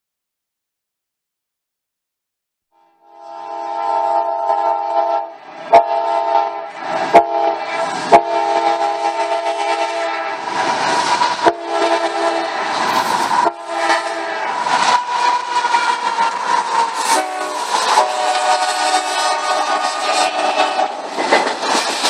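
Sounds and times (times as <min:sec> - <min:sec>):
locomotive air horn: 0:02.8 - 0:12.8, 0:13.4 - 0:21.1
train rumble: 0:03.3 - 0:22.0.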